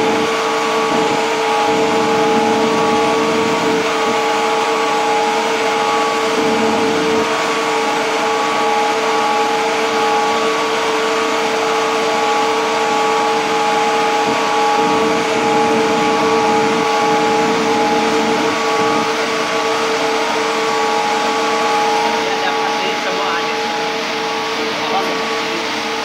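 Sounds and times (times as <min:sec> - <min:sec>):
machinery droning with humming tones: 0:00.0 - 0:26.0.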